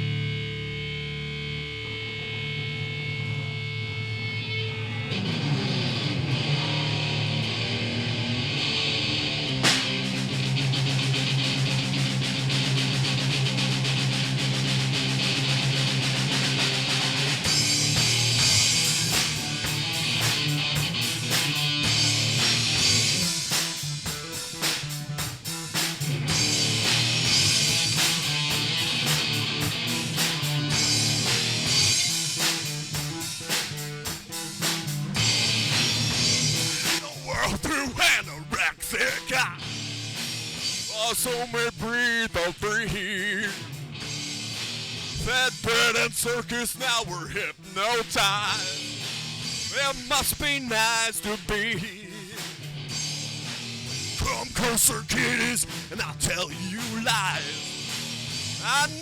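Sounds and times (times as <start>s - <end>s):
distorted electric guitar: 0.0s - 59.0s
live rock band playing: 0.0s - 59.0s
drum kit steady beat: 9.3s - 59.0s.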